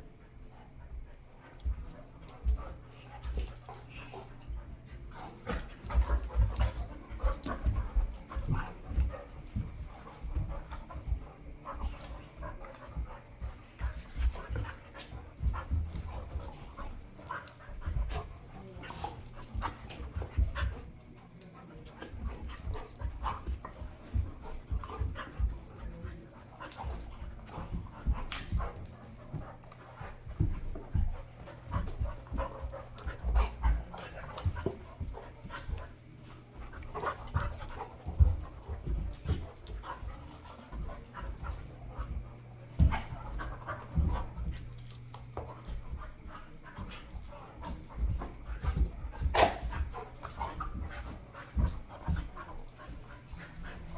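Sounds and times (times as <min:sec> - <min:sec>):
dogs panting: 0:00.0 - 0:53.9
dogs scuffling: 0:00.7 - 0:53.9.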